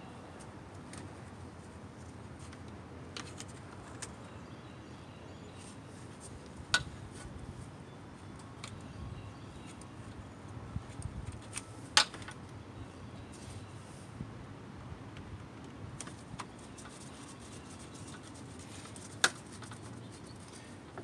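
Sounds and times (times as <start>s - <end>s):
faint low background noise: 0.0s - 21.0s.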